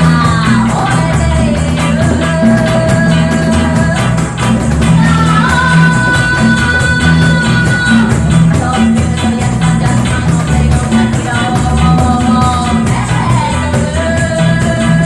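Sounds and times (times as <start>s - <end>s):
live reggae band: 0.0s - 15.0s.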